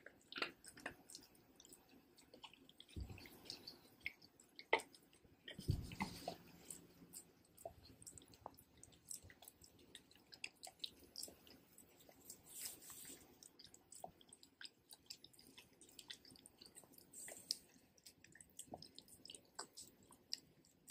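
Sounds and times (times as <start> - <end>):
dog licking and gnawing: 0.0 - 20.9.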